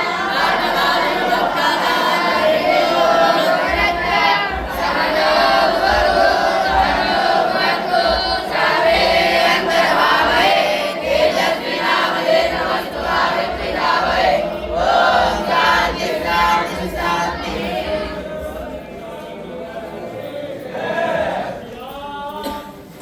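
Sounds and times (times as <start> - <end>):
group of voices chanting: 0.0 - 19.2, 20.6 - 21.7.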